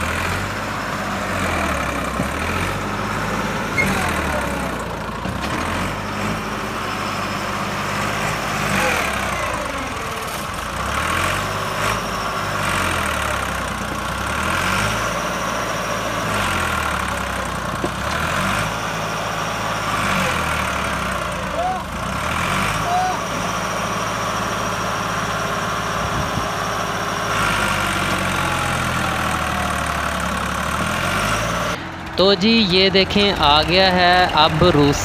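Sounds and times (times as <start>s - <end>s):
tractor diesel engine straining: 0.0s - 35.0s.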